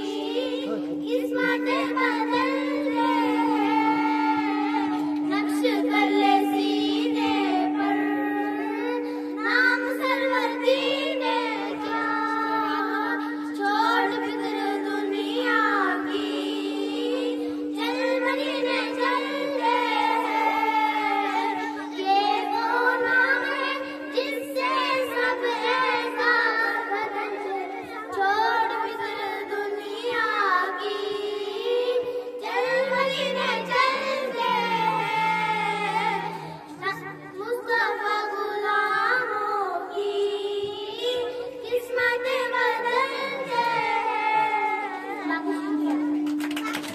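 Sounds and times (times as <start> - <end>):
girls singing into microphone: 0.0 - 46.9
steady hum on one pitch: 0.0 - 46.9.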